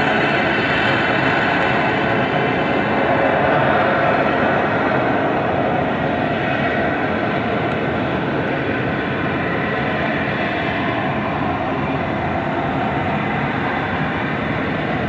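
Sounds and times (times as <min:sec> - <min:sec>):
jet engine loud rushing: 0:00.0 - 0:15.0.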